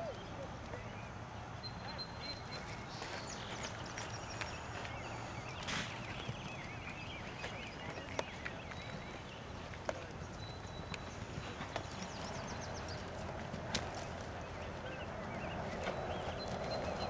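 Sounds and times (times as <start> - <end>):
small birds chirping: 0.0 - 17.0
horse hoofbeats on dirt: 1.8 - 17.0.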